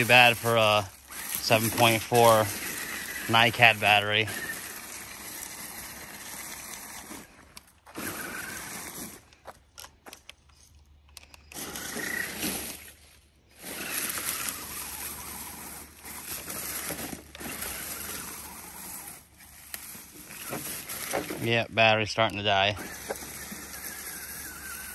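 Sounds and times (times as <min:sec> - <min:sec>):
tires scraping through grass: 0:00.0 - 0:10.0, 0:10.6 - 0:24.9
electric motor and gears whirring: 0:00.0 - 0:24.9.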